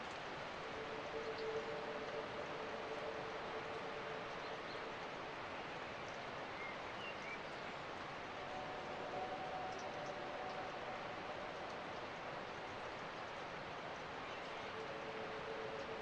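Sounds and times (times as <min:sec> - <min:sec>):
faint steady hum: 0:00.0 - 0:16.0
steady rushing hiss: 0:00.0 - 0:16.0.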